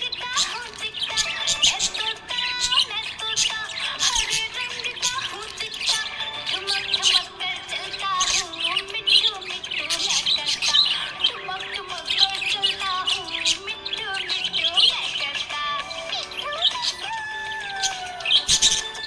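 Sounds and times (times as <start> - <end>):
background music: 0.0 - 19.0
budgies chirping and chattering: 0.0 - 19.0.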